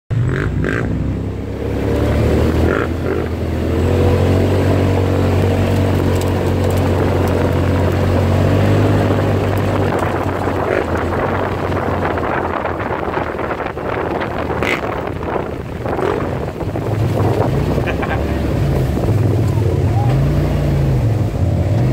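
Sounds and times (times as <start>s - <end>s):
off-road vehicle engine running: 0.1s - 21.9s
wind buffeting microphone: 1.5s - 21.4s
tyre noise: 1.7s - 21.9s.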